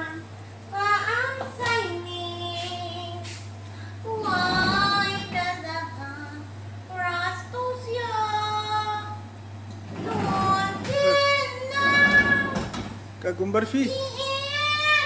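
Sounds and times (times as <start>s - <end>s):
woman singing unaccompanied: 0.0s - 13.0s, 13.8s - 15.0s.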